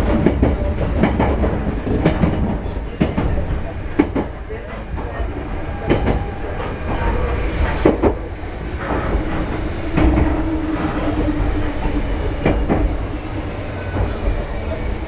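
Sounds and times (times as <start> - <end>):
train low rumble: 0.0 - 15.0
wheels clicking over rail joints: 0.0 - 15.0.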